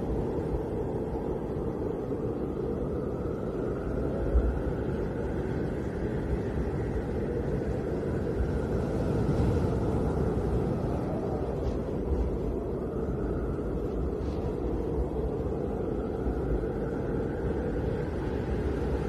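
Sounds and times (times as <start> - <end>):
faint wind whistle: 0.0 - 19.0
wind rumbling: 0.0 - 19.0.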